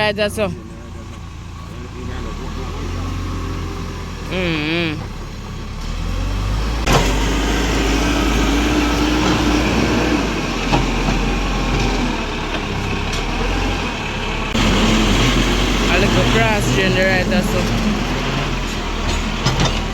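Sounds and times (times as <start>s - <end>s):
tractor engine running: 0.0s - 19.9s.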